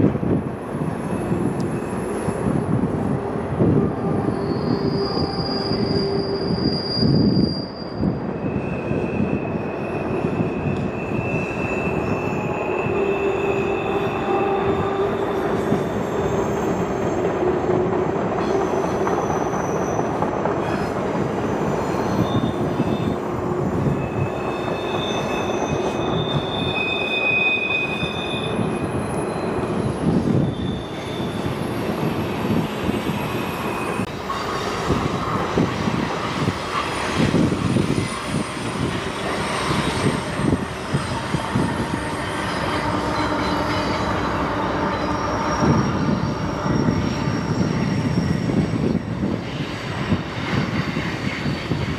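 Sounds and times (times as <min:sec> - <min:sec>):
steel wheels rumbling on rail: 0:00.0 - 0:51.9
high-pitched wheel squeal: 0:01.0 - 0:17.7, 0:18.3 - 0:51.9.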